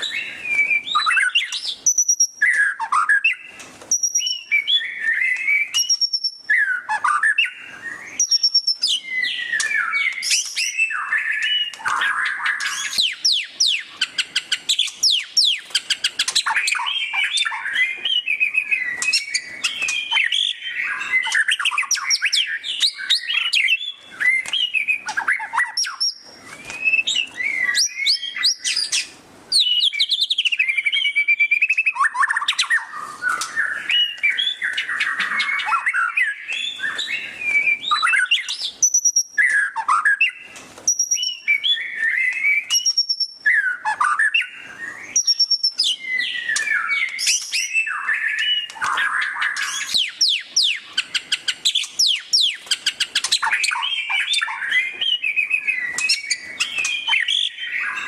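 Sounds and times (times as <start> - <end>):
bird singing trills and whistles: 0.0 - 58.0.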